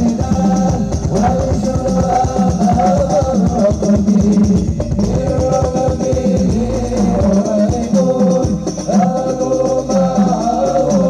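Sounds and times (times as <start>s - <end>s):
religious music with singing and percussion: 0.0s - 11.0s.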